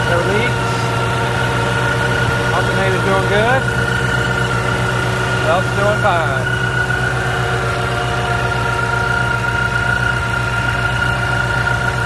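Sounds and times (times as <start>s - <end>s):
car engine idling: 0.0s - 12.0s
high supercharger whine: 0.0s - 12.0s.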